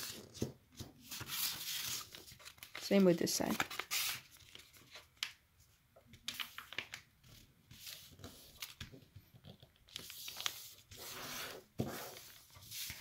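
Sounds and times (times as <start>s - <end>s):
paper rustling and crinkling: 0.0s - 5.4s, 6.1s - 13.0s.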